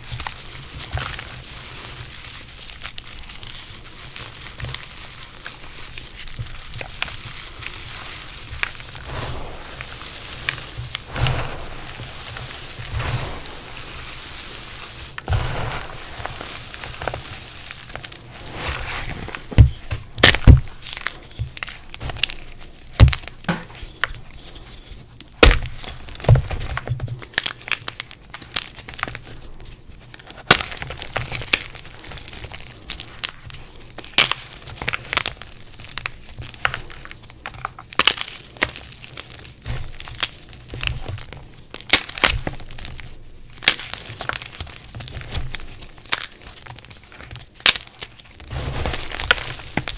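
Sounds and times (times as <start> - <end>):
chalk chunks cracking: 0.0 - 24.6, 30.1 - 49.9
gritty crumbling chalk: 0.0 - 49.9.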